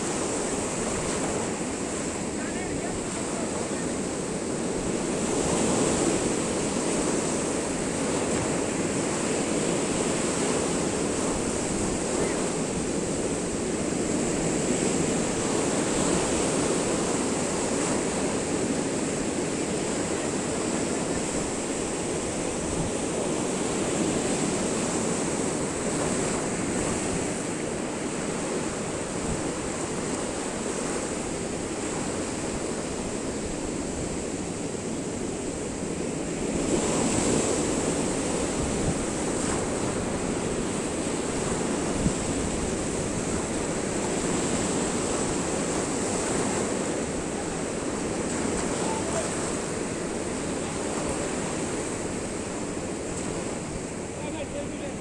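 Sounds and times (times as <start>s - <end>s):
waves breaking over rocks: 0.0s - 55.0s.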